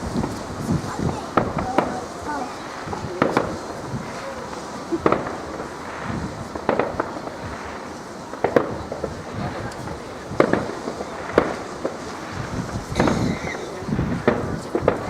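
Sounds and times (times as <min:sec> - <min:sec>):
fireworks exploding: 0:00.0 - 0:15.0
steady background hiss: 0:00.0 - 0:15.0.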